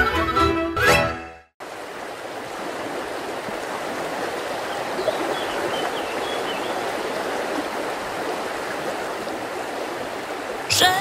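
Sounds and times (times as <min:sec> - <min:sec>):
stream rushing over rocks: 0:01.6 - 0:11.0.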